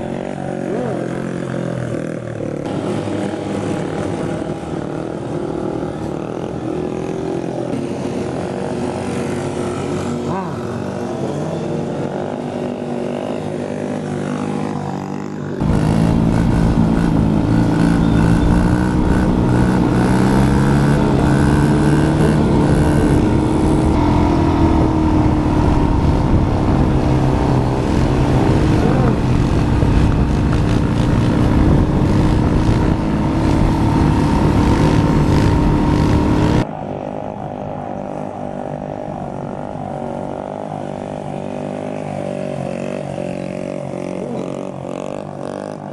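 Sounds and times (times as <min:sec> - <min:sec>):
pit bike engines revving: 0:00.0 - 0:45.9.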